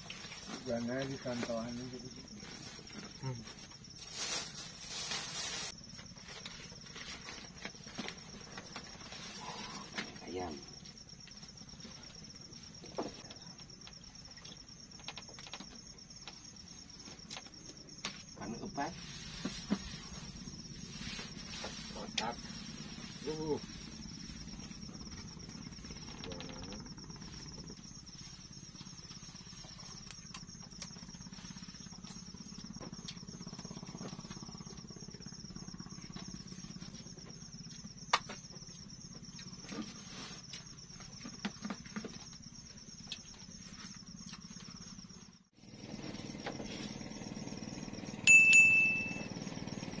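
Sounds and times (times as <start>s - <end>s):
night insects chirring: 0.0s - 50.0s.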